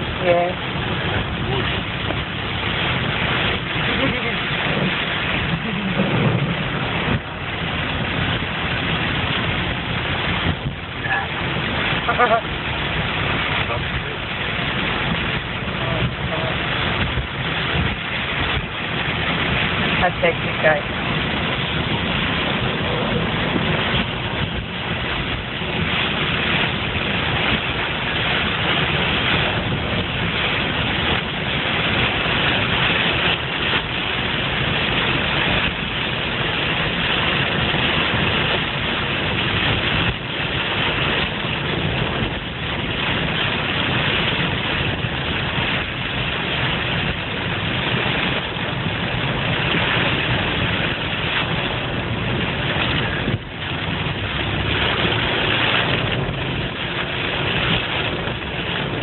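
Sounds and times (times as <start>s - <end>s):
car engine running: 0.0s - 59.0s
water rushing and spraying: 0.0s - 59.0s.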